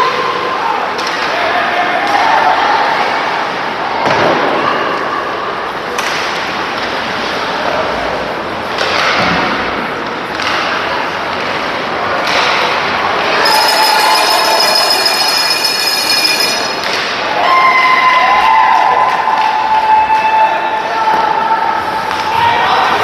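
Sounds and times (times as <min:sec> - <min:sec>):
crowd noise in a hall: 0:00.0 - 0:23.0.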